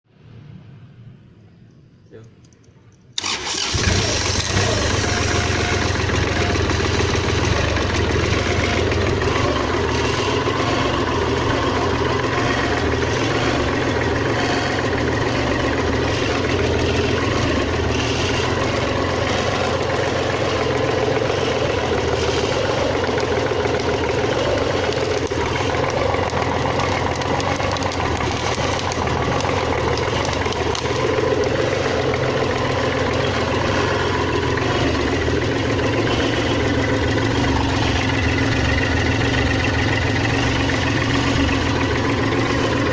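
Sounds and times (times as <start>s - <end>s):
diesel tractor engine idling: 3.2s - 42.9s.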